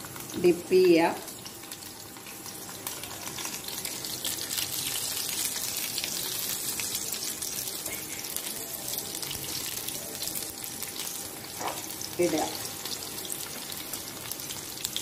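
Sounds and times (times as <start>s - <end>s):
oil sizzling while deep-frying: 0.0s - 15.0s.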